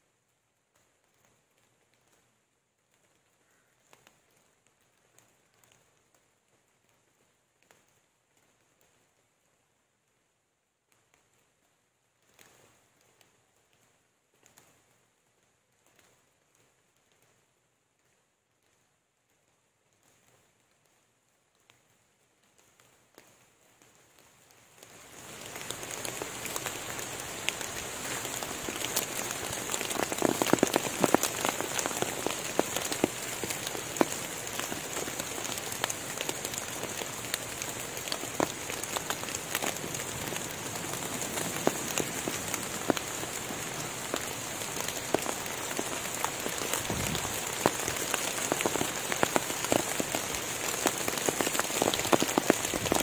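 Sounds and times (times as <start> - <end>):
rain on foliage: 0.0 - 53.0.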